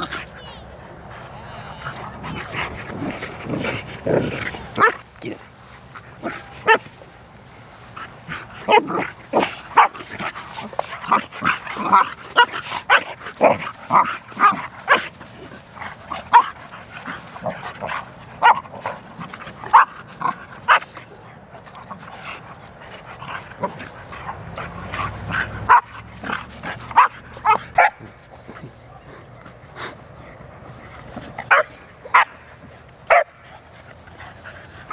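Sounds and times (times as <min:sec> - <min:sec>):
dogs barking and yipping: 0:00.0 - 0:34.9.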